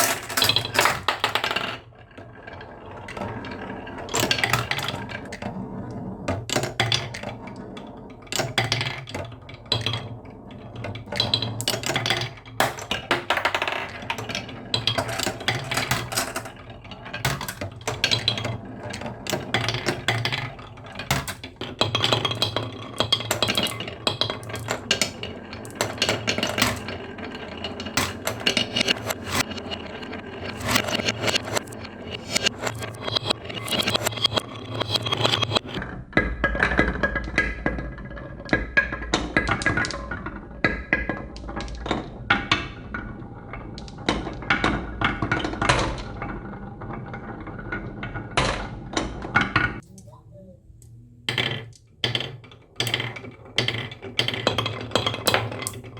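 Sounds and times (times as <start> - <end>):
marbles clicking and clacking: 0.0 - 49.8, 51.3 - 55.9
marbles rolling on track: 0.0 - 49.8, 51.3 - 55.9.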